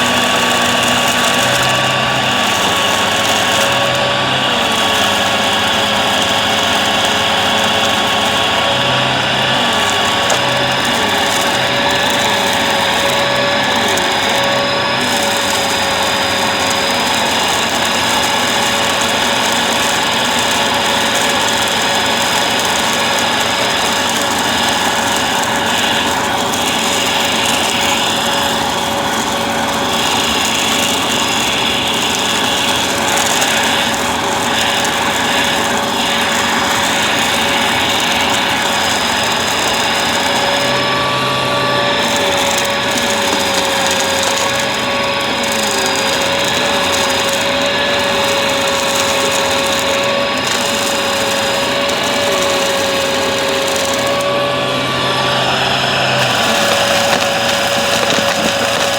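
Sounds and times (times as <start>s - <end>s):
vacuum cleaner motor whine: 0.0s - 58.9s.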